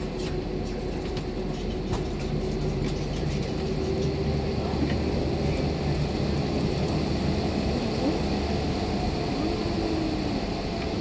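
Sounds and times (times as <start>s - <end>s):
jet engines idling drone: 0.0s - 11.0s.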